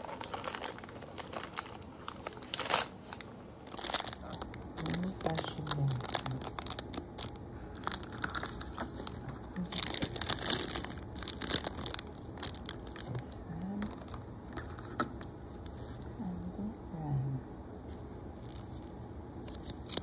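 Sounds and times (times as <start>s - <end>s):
plastic packaging crinkling and tearing: 0.0s - 16.2s, 18.2s - 20.0s.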